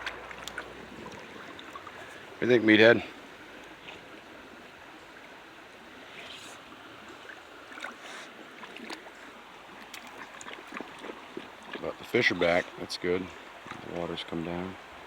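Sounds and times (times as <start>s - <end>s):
brook water running over rocks: 0.0s - 15.0s.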